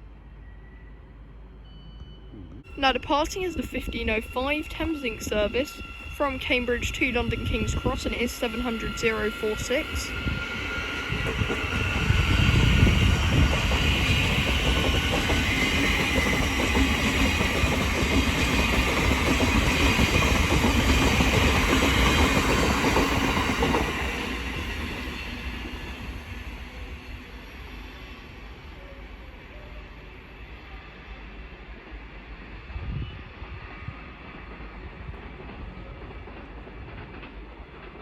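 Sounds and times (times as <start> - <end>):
electric train rumbling past: 0.0 - 38.0.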